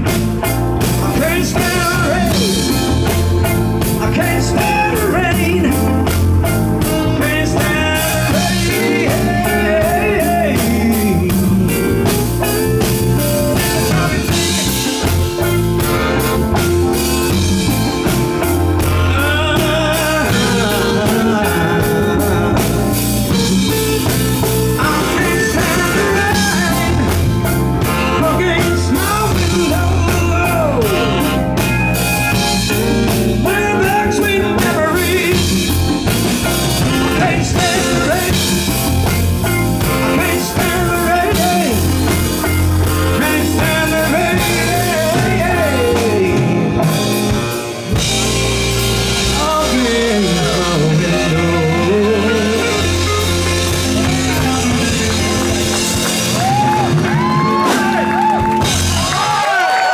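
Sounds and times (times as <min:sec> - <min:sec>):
rock band playing: 0:00.0 - 0:59.9
man singing: 0:00.9 - 0:15.2, 0:17.3 - 0:31.7, 0:32.3 - 0:47.4, 0:49.1 - 0:58.0.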